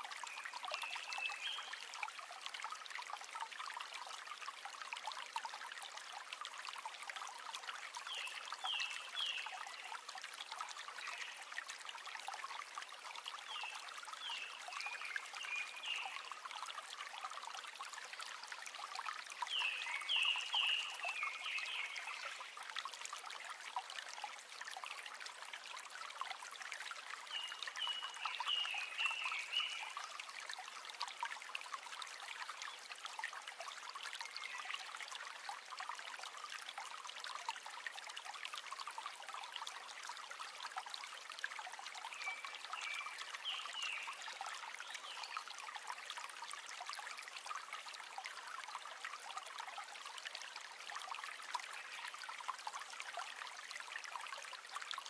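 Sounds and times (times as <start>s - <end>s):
river trickling over stones: 0.0s - 55.0s.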